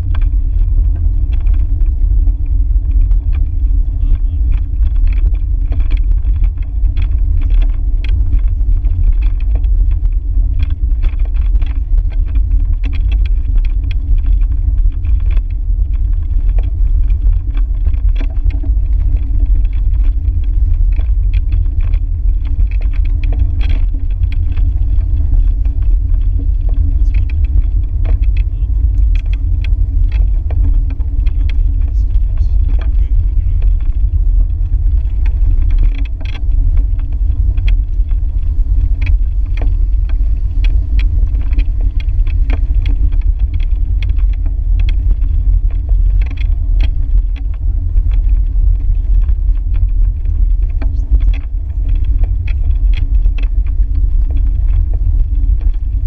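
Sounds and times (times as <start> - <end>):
bicycle clicks and rattles: 0.0 - 56.0
wind rumbling on microphone: 0.0 - 56.0.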